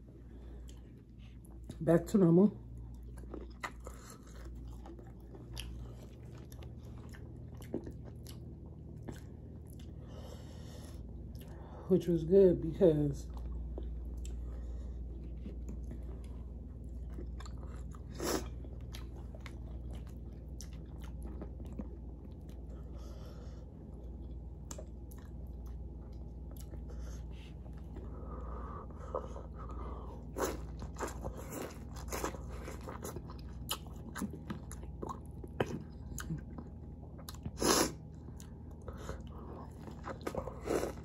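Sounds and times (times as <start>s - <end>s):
chewing and biting food: 2.6s - 11.7s, 13.2s - 41.0s.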